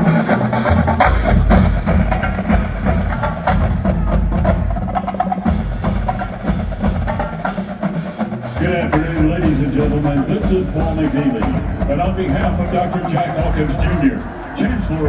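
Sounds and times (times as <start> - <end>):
marching band music: 0.0 - 15.0
sharp percussion hits: 0.0 - 15.0.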